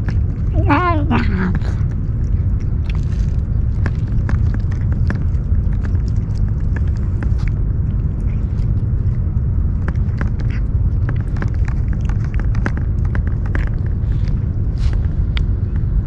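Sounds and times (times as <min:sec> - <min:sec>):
cat chewing and licking: 0:00.0 - 0:16.0
loud low rumble: 0:00.0 - 0:16.0.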